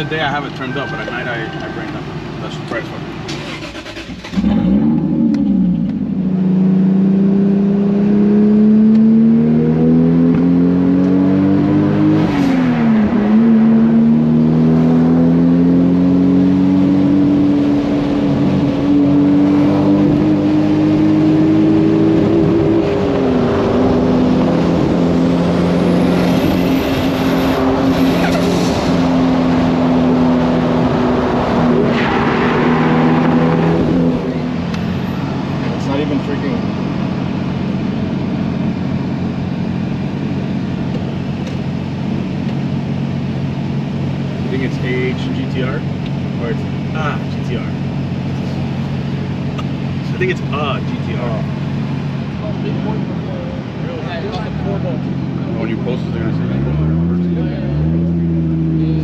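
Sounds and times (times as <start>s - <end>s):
car engine accelerating through gears: 3.3s - 59.0s.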